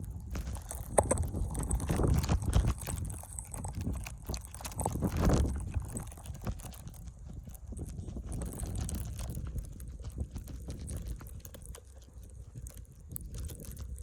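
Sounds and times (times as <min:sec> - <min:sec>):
wind gusting on microphone: 0:00.0 - 0:11.4
crunching and knocks: 0:00.0 - 0:14.0.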